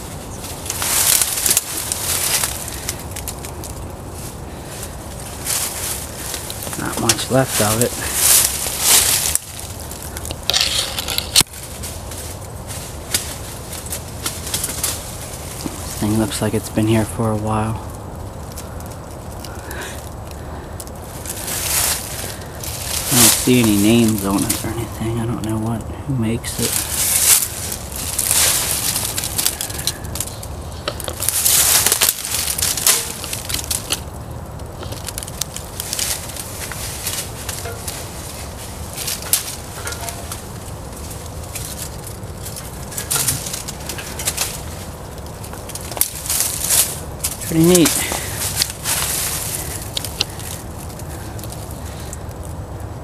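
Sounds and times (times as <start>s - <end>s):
leaves crunching underfoot: 0.0s - 53.0s
twigs crackling and snapping: 0.0s - 53.0s.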